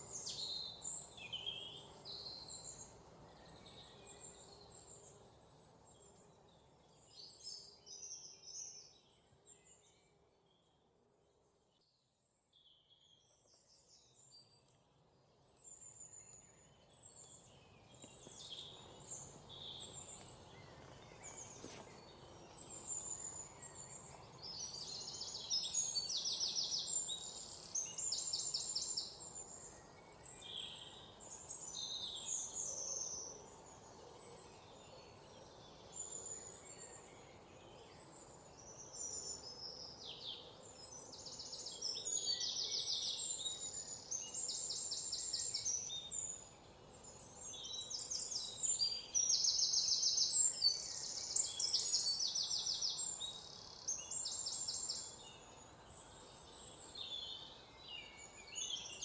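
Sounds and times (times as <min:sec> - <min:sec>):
soft steady hiss: 0:00.0 - 0:59.0
songbirds chirping and trilling: 0:00.0 - 0:59.0.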